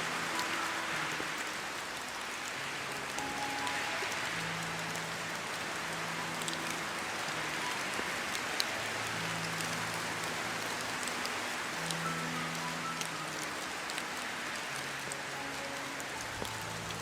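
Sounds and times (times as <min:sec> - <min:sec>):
rain drop ticks: 0:00.0 - 0:17.0
rain hissing on surfaces: 0:00.0 - 0:17.0.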